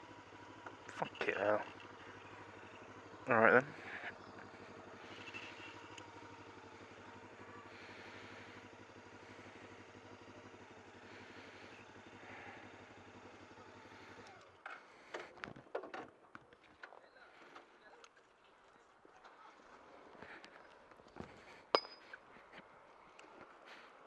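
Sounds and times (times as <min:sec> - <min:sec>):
faint motorcycle engine idling: 0:00.0 - 0:24.0.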